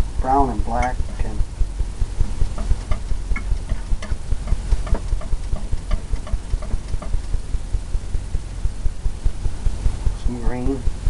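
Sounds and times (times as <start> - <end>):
low pulsing rumble: 0.0 - 11.0
even ticking: 0.2 - 11.0.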